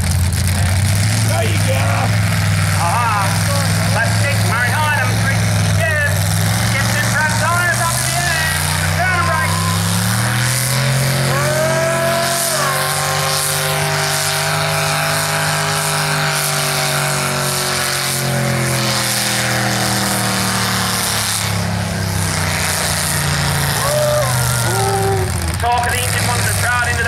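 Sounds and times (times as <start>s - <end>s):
tractor engine running hard: 0.0s - 27.0s.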